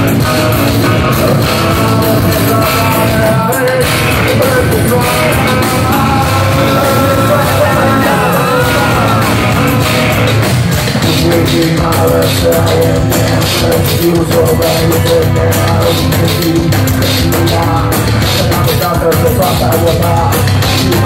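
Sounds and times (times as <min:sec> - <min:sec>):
bass guitar: 0:00.0 - 0:21.0
distorted electric guitars: 0:00.0 - 0:21.0
drums: 0:00.0 - 0:21.0
person singing and yelling: 0:00.0 - 0:21.0.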